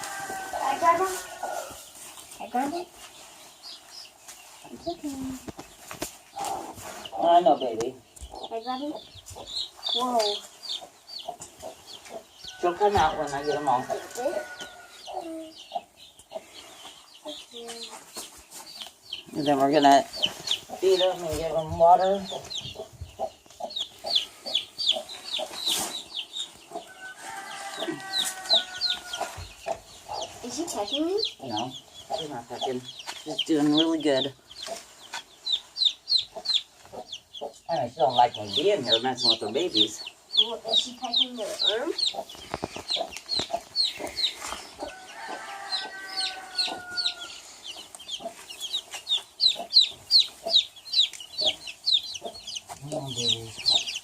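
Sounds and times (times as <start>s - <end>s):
baby chicks peeping: 0.0s - 54.0s
hen clucking: 0.0s - 54.0s.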